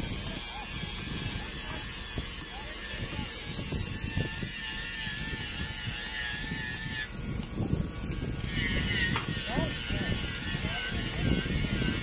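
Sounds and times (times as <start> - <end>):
low rumbling: 0.0 - 12.0.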